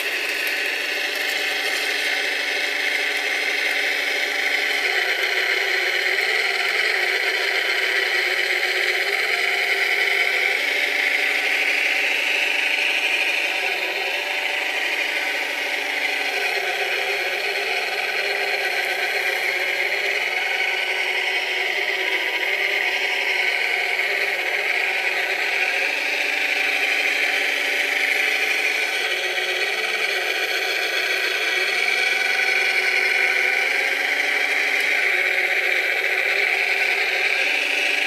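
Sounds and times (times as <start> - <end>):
electric motor whining: 0.0 - 38.0.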